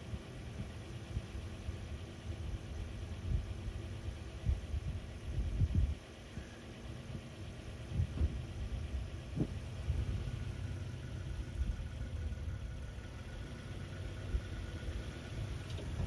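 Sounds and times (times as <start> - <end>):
pickup engine idling: 0.0 - 16.0.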